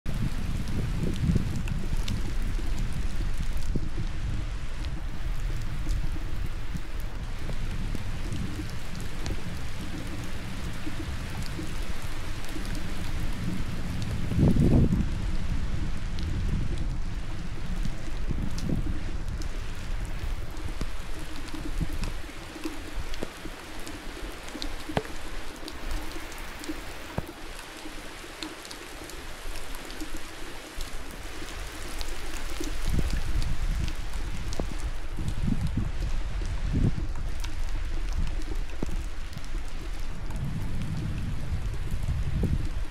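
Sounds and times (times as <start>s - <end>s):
raindrops ticking close by: 0.1s - 42.9s
steady rain falling: 0.1s - 42.9s.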